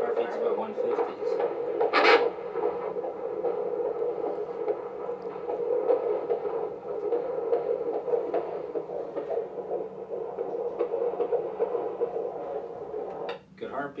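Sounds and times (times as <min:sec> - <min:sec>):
heartbeat whooshing pulse: 0:00.0 - 0:13.4.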